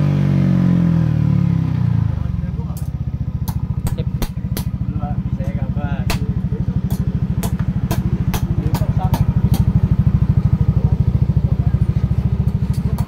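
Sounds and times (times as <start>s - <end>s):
scooter engine idling: 0.1s - 13.0s.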